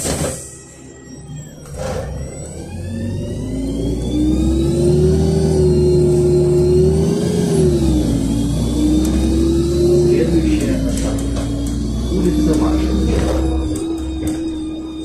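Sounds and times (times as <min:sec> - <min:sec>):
bus engine whine accelerating: 0:00.0 - 0:15.0.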